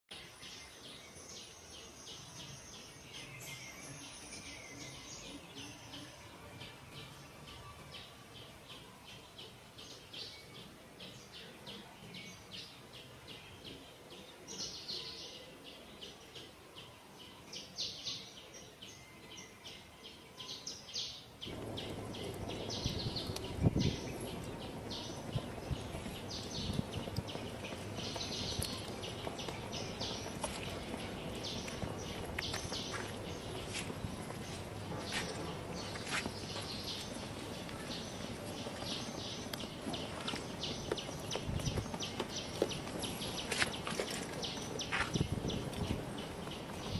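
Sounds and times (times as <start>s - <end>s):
low steady background noise: 0.1s - 46.9s
small birds chirping: 0.1s - 46.9s.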